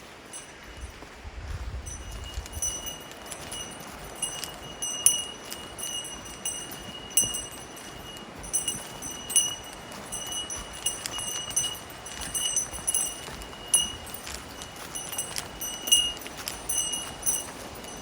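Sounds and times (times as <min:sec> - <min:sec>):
footsteps on trail: 0:00.0 - 0:18.0
small bell jingling: 0:00.0 - 0:18.0.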